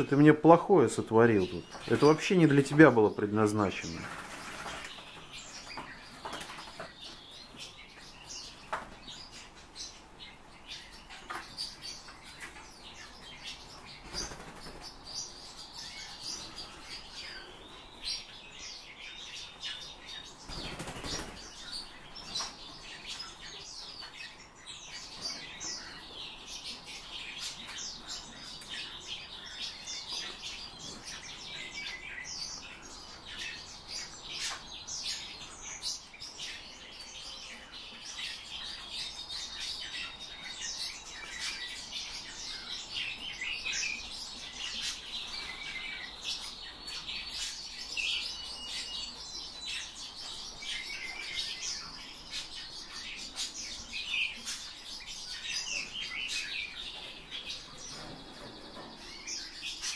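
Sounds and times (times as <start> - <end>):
small birds chirping and twittering: 0.0 - 59.9.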